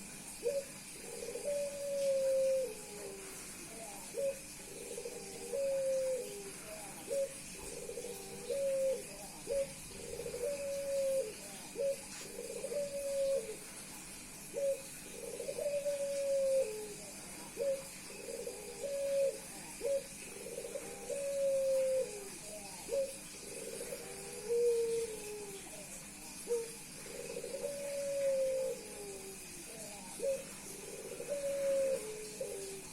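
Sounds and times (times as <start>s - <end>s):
dove cooing: 0.0s - 32.9s.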